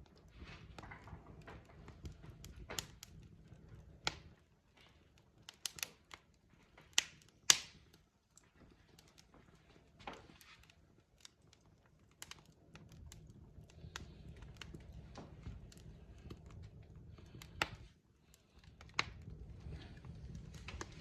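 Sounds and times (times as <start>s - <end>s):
log fire crackling: 0.0s - 21.0s.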